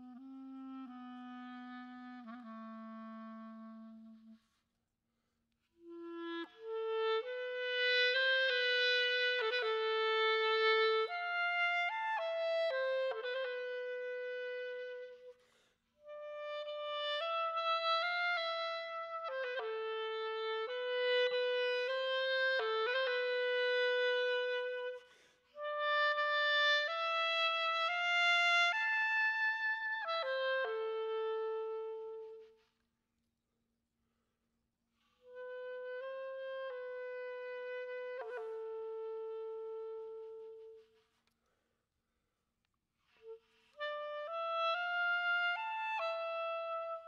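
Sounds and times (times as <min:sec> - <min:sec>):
clarinet playing slow melody: 0:00.0 - 0:04.6, 0:05.8 - 0:32.7, 0:35.2 - 0:41.4, 0:43.1 - 0:47.0.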